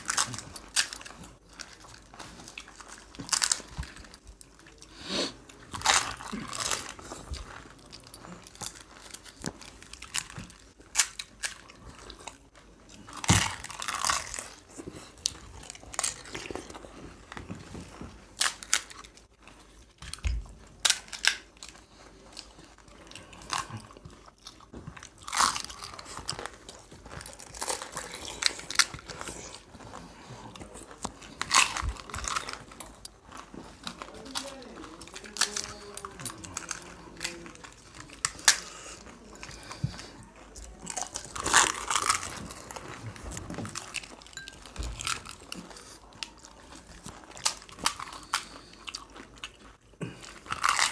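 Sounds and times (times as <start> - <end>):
crisp shells crunching when chewed: 0.0 - 50.9.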